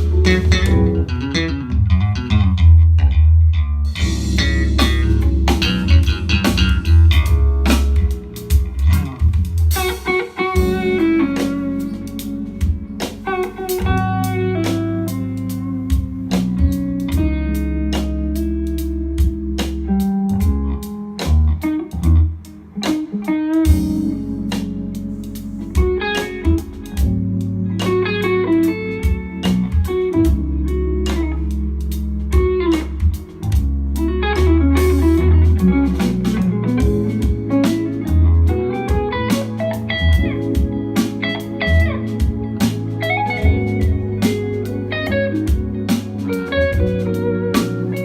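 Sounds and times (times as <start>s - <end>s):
instrumental music through speakers: 0.0s - 48.0s.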